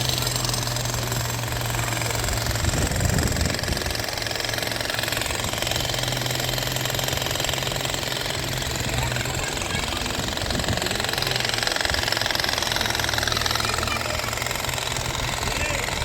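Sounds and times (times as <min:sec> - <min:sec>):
demolition machine engine hum: 0:00.0 - 0:16.0
fast hammering rattle: 0:00.0 - 0:16.0.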